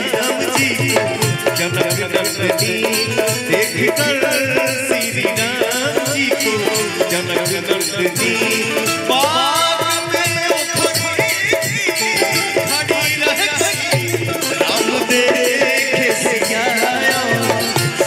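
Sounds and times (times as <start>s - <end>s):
fast rattling percussion: 0.0s - 18.0s.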